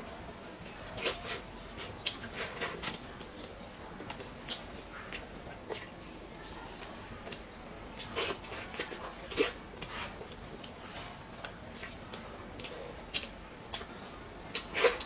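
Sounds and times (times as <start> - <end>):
food handling clicks and smacks: 0.0 - 15.0
chewing and lip sounds: 0.1 - 15.0.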